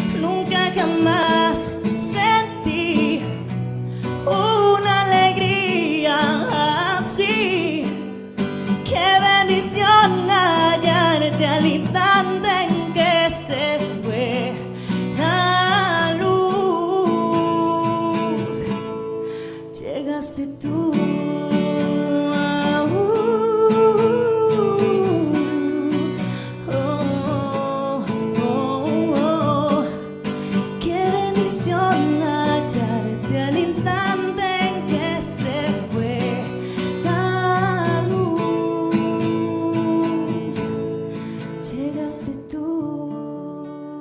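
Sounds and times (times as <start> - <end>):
acoustic guitar: 0.0 - 44.0
woman singing: 0.0 - 44.0.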